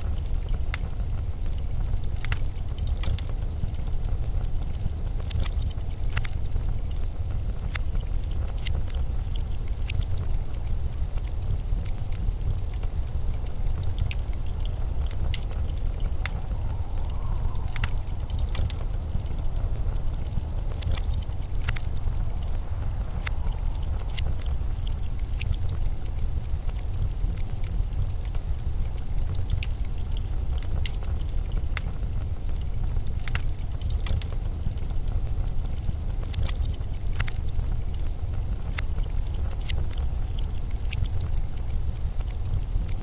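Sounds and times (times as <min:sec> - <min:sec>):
blizzard wind rumbling: 0:00.0 - 0:43.0
small crackles and ticks: 0:00.0 - 0:43.0.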